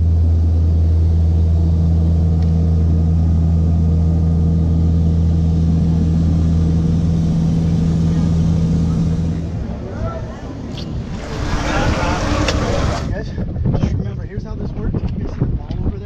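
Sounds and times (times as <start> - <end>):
airliner engines humming: 0.0 - 13.1.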